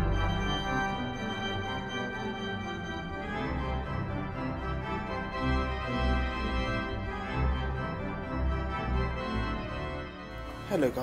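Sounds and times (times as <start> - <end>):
organ music: 0.0 - 11.0.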